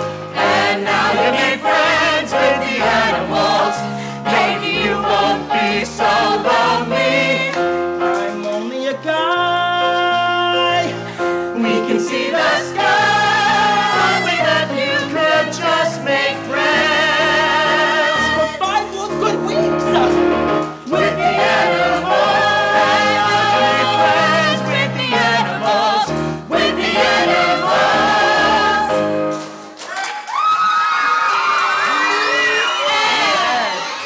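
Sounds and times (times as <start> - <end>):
backing music: 0.0 - 29.8
people singing with vibrato: 0.0 - 29.8.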